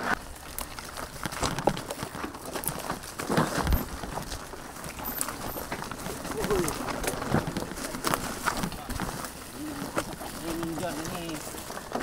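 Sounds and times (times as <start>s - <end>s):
faint rustling: 0.0s - 12.0s
footsteps on a trail: 0.0s - 12.0s.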